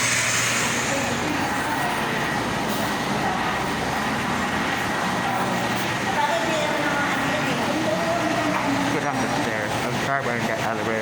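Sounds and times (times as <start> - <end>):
elevator car running: 0.0 - 11.0.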